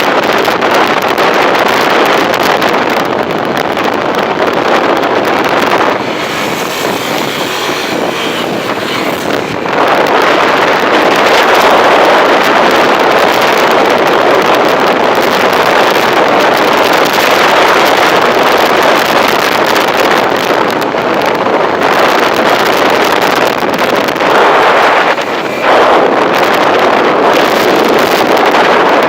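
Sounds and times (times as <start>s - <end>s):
wind blasting microphone: 0.0s - 29.0s.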